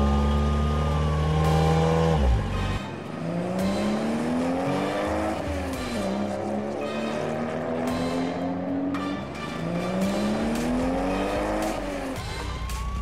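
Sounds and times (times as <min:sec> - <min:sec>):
car engine revving: 0:00.0 - 0:12.3
car engine droning: 0:00.0 - 0:13.0.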